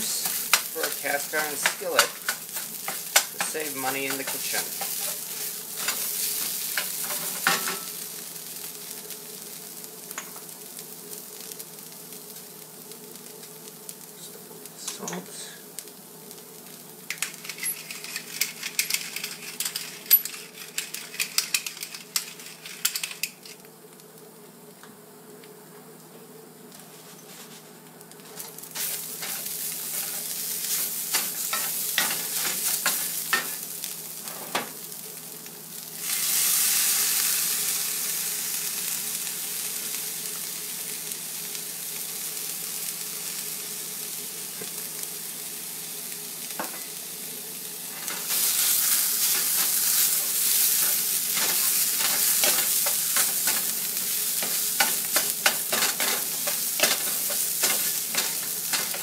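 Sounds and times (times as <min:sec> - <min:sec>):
fish sizzling in a skillet: 0:00.0 - 0:14.3, 0:15.1 - 0:24.2, 0:26.8 - 0:59.0.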